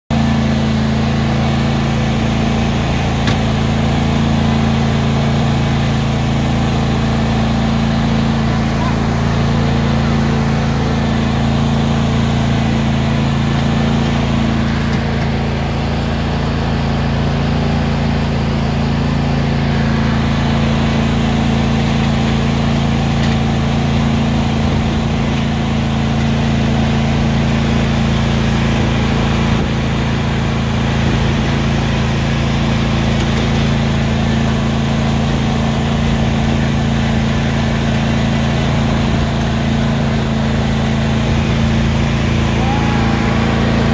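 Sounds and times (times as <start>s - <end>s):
riding lawn mower engine running: 0.0s - 43.9s.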